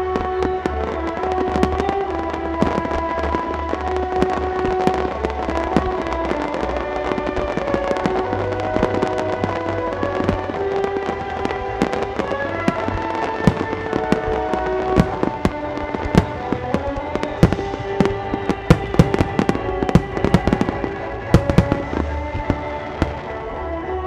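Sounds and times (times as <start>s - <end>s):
fireworks bursts and bangs: 0.0s - 24.0s
music playing: 0.0s - 24.0s.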